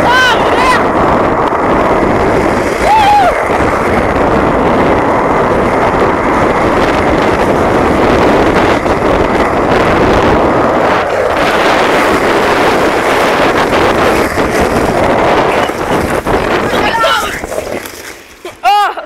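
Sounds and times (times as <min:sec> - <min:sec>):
skateboard wheels rolling on asphalt: 0:00.0 - 0:19.0
wind buffeting microphone: 0:00.0 - 0:19.0.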